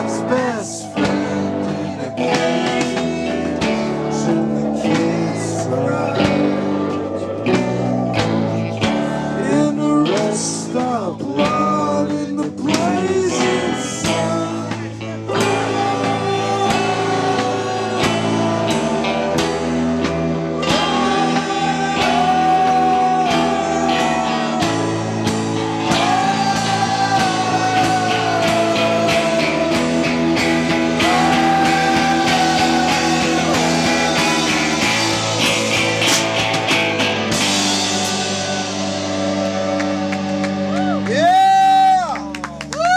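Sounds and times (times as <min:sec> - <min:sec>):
held bending melody line: 0:00.0 - 0:41.0
live rock band playing: 0:00.0 - 0:42.9.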